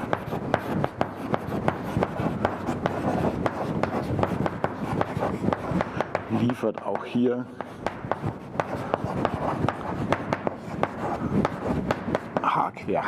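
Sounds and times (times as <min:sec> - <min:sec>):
chalk writing on a blackboard: 0:00.0 - 0:12.7.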